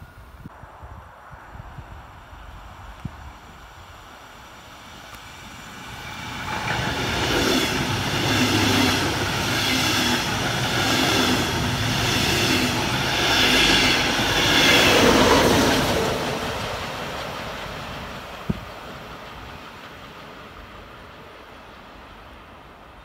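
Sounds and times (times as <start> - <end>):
electric locomotive passing: 1.3 - 23.0
train wheels rolling on rails: 2.8 - 23.0.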